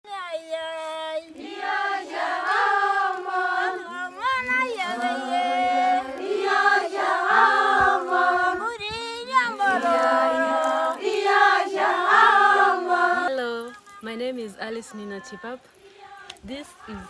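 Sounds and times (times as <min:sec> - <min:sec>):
group singing unaccompanied: 0:00.8 - 0:17.0.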